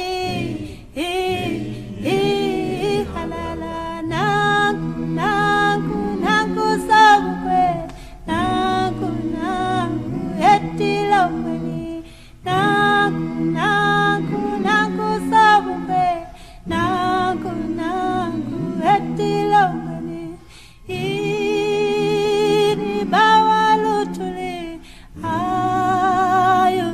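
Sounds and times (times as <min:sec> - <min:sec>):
a cappella group singing: 0:00.0 - 0:26.9.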